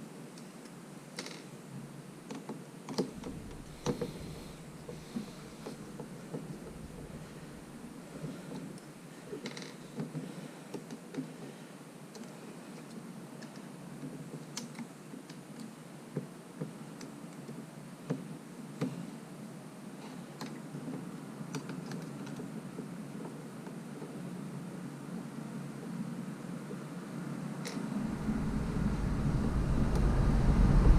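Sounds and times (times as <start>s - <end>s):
low background noise: 0.0s - 30.9s.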